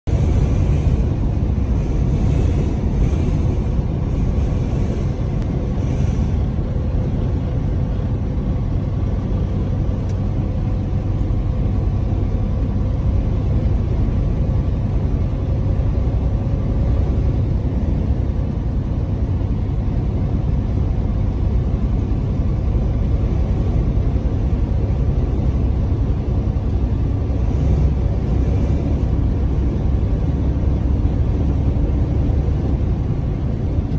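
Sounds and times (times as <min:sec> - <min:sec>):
road noise: 0:00.0 - 0:33.9
truck engine drone: 0:00.0 - 0:33.9.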